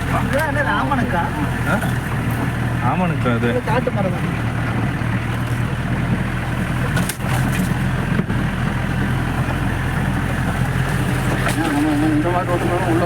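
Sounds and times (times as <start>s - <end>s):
jeep engine running: 0.0s - 13.0s.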